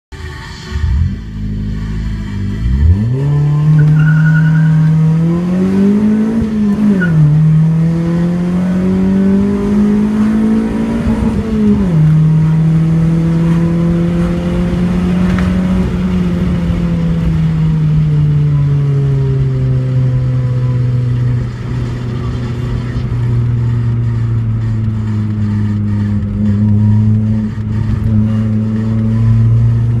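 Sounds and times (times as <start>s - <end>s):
car engine accelerating: 0.1s - 30.0s.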